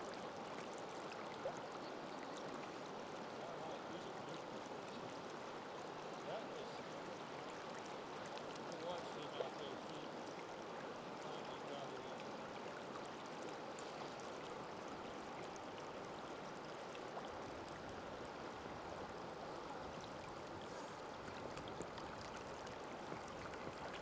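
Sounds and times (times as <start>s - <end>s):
creek water flowing: 0.0s - 24.0s.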